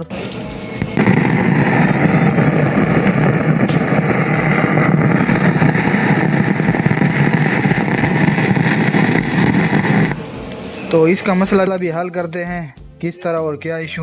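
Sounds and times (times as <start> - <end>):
speaker rough bass noise: 0.0 - 11.8.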